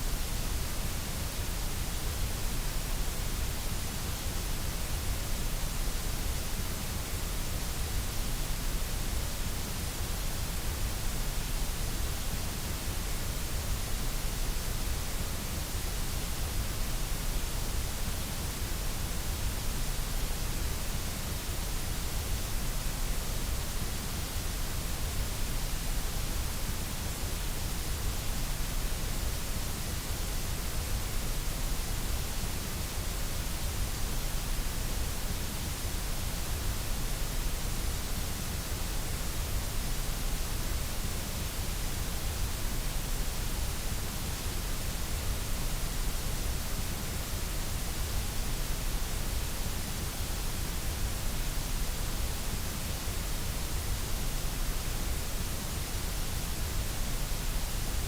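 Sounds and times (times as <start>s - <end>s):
steady broadband hiss: 0.0s - 58.0s.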